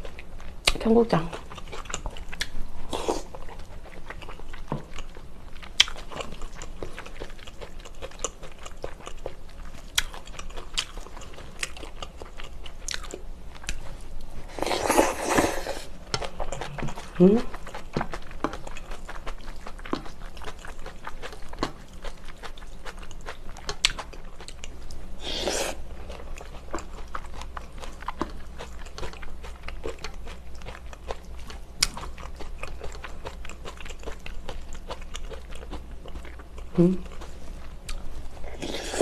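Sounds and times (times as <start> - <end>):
chewing with wet clicks: 0.0 - 2.6, 3.2 - 14.3, 16.0 - 25.1, 25.9 - 38.8.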